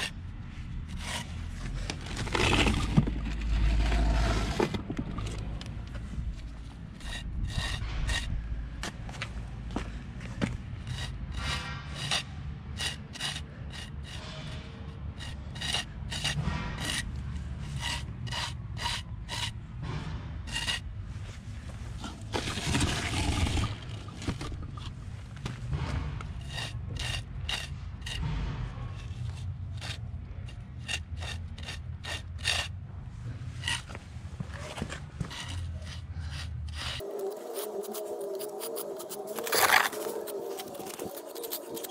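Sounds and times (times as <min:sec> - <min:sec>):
metal iron scraping mortar: 0:00.8 - 0:08.6, 0:10.8 - 0:21.0, 0:21.9 - 0:32.8, 0:33.5 - 0:41.9.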